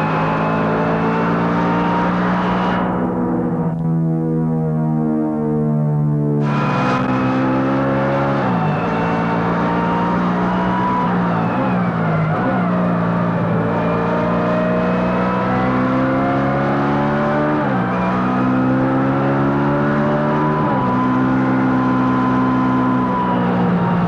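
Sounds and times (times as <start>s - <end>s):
vehicle engine shifting through gears: 0.0s - 3.9s, 6.4s - 24.0s.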